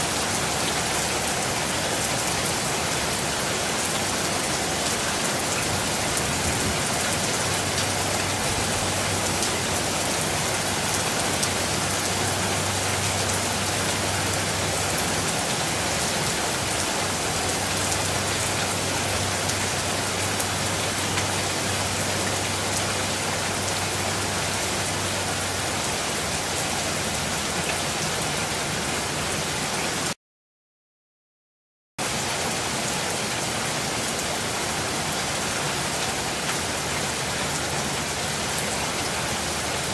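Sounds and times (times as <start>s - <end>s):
steady rain falling: 0.0s - 30.2s, 32.0s - 39.9s.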